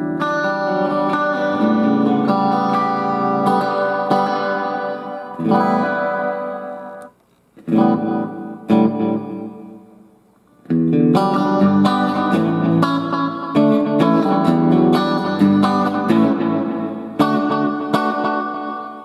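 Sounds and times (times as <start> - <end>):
electric guitar playing: 0.0 - 19.0.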